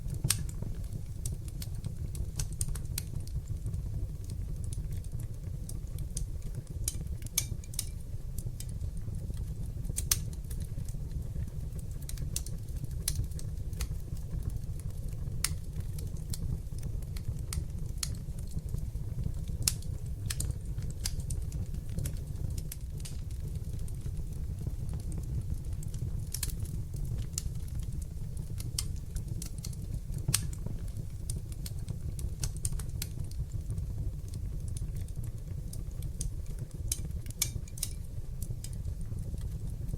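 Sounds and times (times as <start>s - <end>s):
fire flames rumbling: 0.0s - 39.9s
wood fire crackling and popping: 0.0s - 39.9s.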